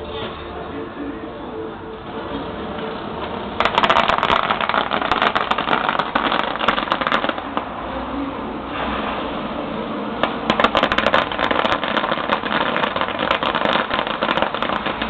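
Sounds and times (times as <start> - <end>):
fireworks crackling: 2.1 - 15.0.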